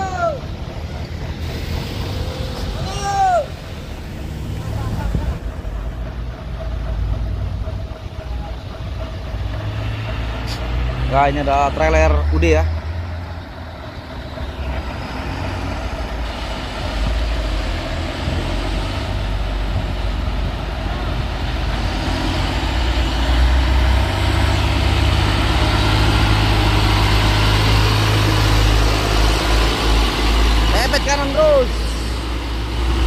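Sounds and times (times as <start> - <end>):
truck diesel engine droning: 0.0 - 33.0.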